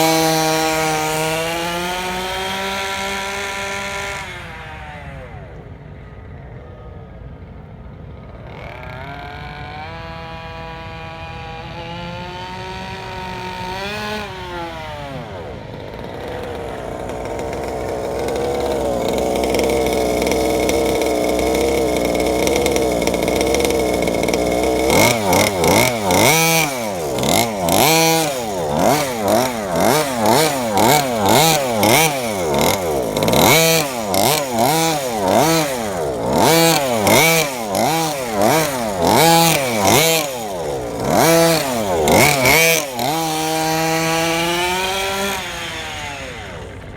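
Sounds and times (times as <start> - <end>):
two-stroke engine revving: 0.0 - 6.0, 8.2 - 46.9.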